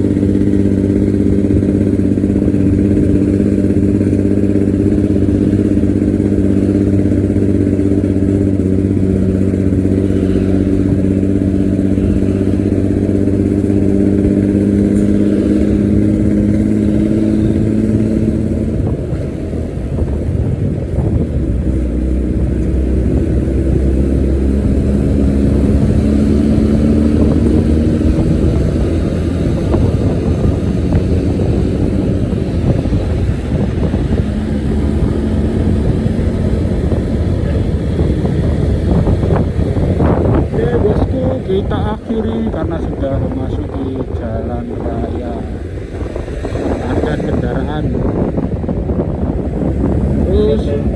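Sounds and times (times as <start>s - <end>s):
bus diesel engine growling: 0.0s - 50.9s.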